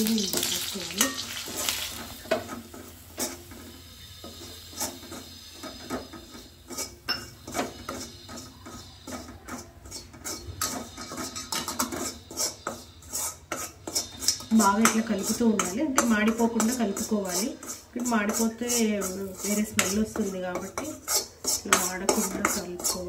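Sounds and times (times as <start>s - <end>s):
spoon scraping pan: 0.0s - 23.0s.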